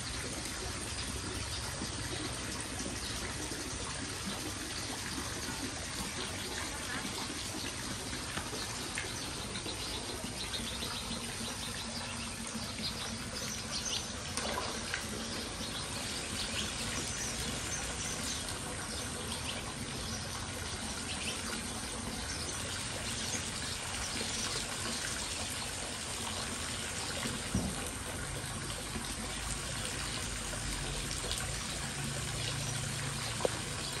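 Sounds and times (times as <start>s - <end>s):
small water splashes: 0.0s - 34.0s
water pouring into pond: 0.0s - 34.0s.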